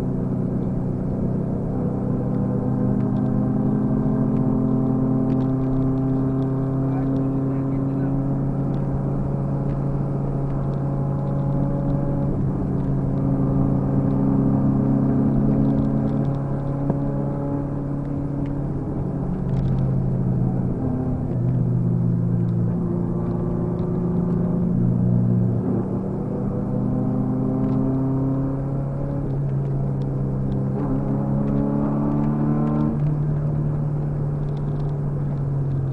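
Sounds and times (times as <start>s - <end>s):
car engine and road noise: 0.0s - 35.9s.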